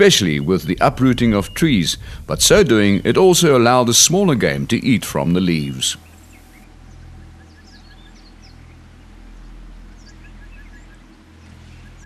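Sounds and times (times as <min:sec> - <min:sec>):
birds chirping: 0:00.0 - 0:12.0
low rumble: 0:00.0 - 0:12.0.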